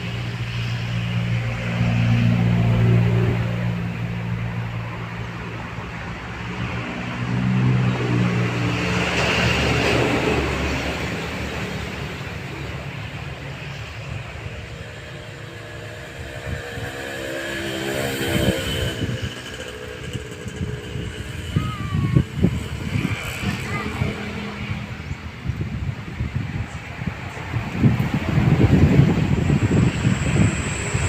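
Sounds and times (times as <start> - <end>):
vehicle engines running: 0.0 - 31.0
vehicle passing: 0.0 - 31.0.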